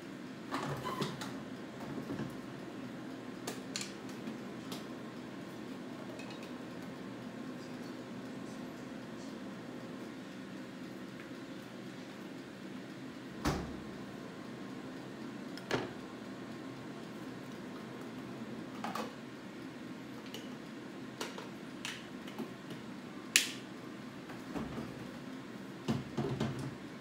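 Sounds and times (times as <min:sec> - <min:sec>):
steady low hum: 0:01.2 - 0:27.0.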